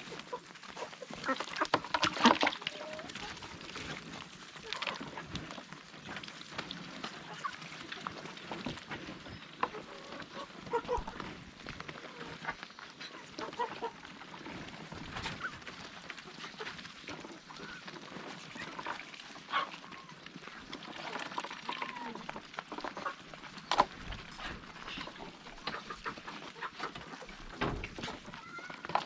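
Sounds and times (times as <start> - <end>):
ducks and poultry calling: 0.0 - 29.0.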